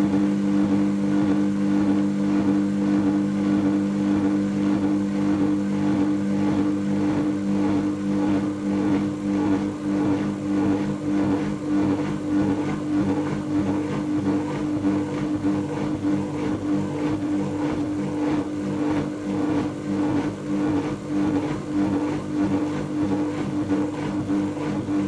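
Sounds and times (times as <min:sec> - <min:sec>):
washing machine motor whine: 0:00.0 - 0:25.0.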